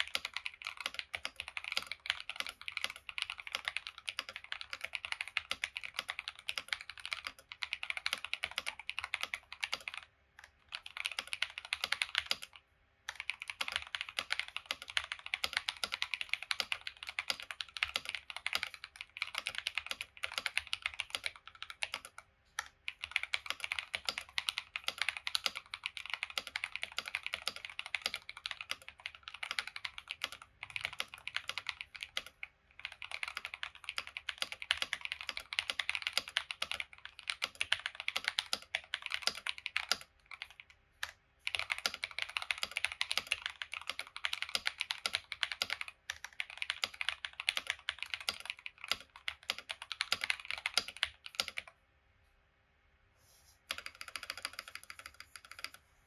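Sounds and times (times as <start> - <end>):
typing on mechanical keyboard: 0.0 - 51.8, 53.7 - 55.8.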